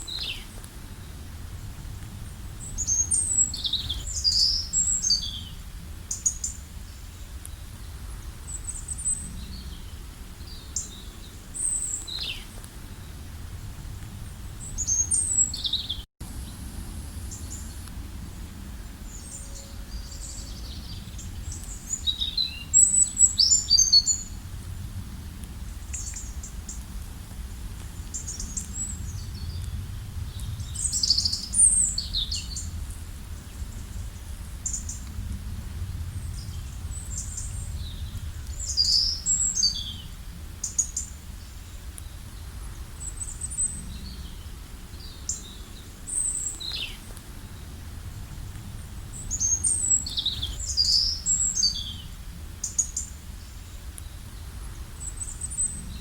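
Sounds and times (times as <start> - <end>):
low outdoor rumble: 0.0 - 56.0
songbirds chirping and trilling: 0.0 - 56.0.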